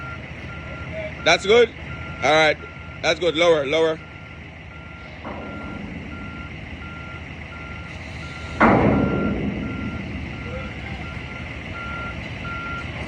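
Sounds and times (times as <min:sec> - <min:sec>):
engine running: 0:00.0 - 0:13.0
reversing alarm beeping: 0:00.0 - 0:13.0.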